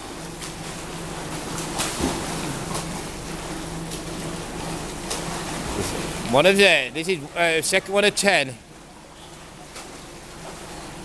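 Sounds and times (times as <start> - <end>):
low hum and hiss: 0.0 - 11.0
water splashing: 0.0 - 11.0.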